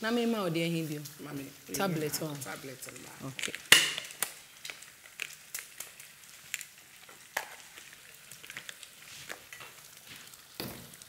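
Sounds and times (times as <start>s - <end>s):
stew sizzling in a pot: 0.0s - 11.0s.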